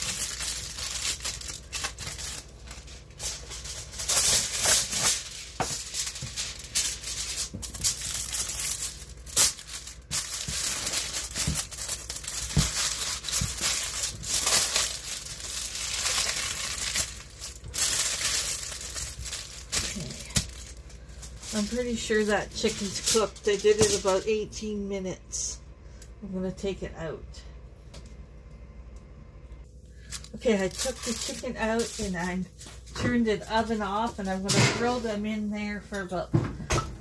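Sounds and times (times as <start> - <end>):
aluminium foil crinkling: 0.0 - 24.7, 29.9 - 36.1.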